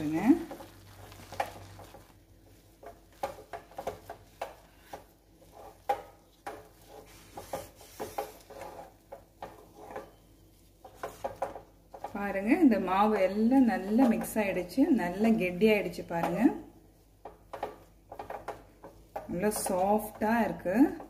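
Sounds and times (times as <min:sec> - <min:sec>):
spatula scraping dough in metal pan: 0:00.0 - 0:21.0.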